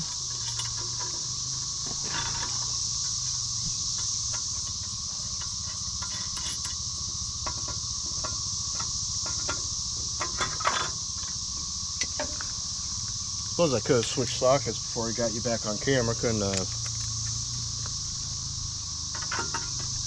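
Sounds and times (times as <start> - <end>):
crickets and insects chirping: 0.0 - 20.0.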